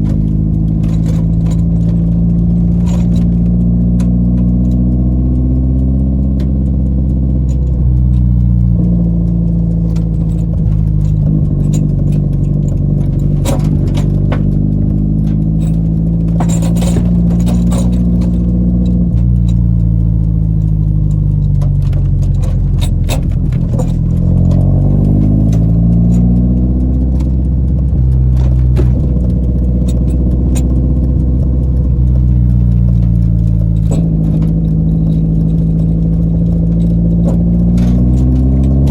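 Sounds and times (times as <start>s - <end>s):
car engine running: 0.0s - 38.9s
clicks and rattles: 0.0s - 38.9s.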